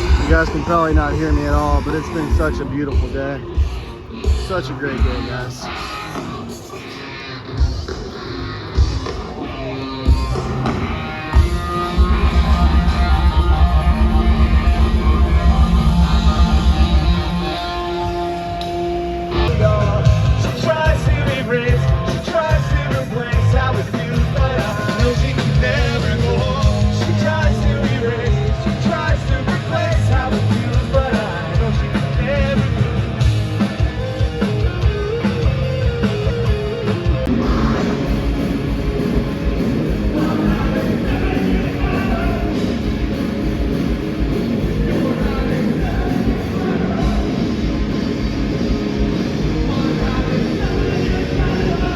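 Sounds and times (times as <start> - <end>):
fast pounding drums: 0.0 - 18.3, 19.2 - 51.9
distorted guitars: 0.0 - 51.9.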